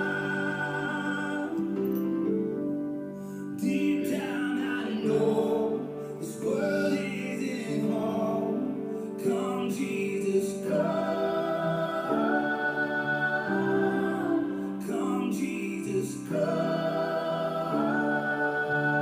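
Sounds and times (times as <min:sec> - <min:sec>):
person singing slow song: 0:00.0 - 0:02.5, 0:03.1 - 0:19.0.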